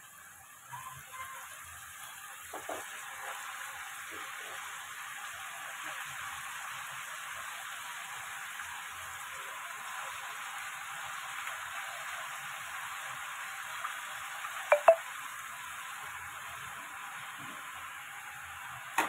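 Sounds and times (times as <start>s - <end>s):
leaves sizzling in a pan: 0.0s - 19.0s.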